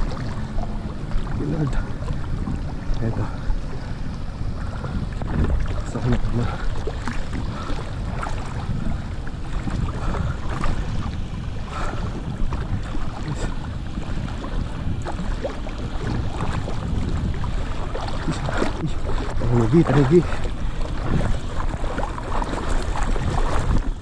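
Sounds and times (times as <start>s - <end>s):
seawater sloshing: 0.0s - 24.0s
small water splashes: 0.0s - 24.0s
wind buffeting microphone: 0.0s - 24.0s.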